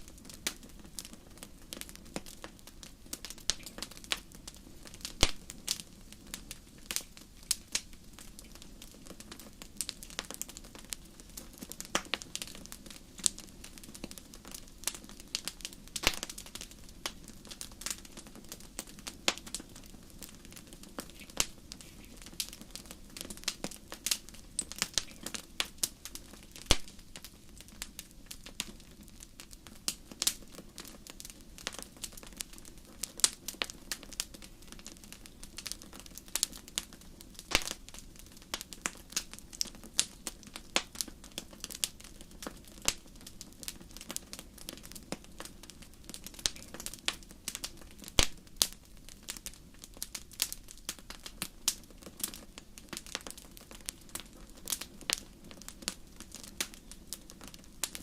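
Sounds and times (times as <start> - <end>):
hiss of burning: 0.0 - 58.0
wood fire crackling and popping: 0.0 - 58.0.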